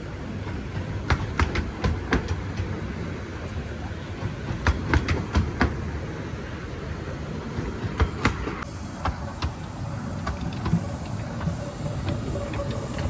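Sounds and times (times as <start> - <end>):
wheels clicking over rail joints: 0.0 - 6.1, 7.3 - 13.0
railway coaches rumbling past: 0.0 - 13.0.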